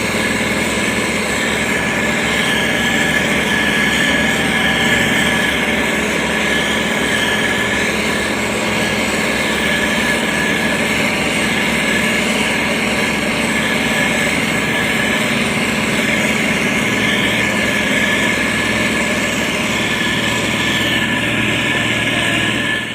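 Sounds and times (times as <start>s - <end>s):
constant whine: 0.0s - 22.9s
diesel engine running: 0.0s - 22.9s.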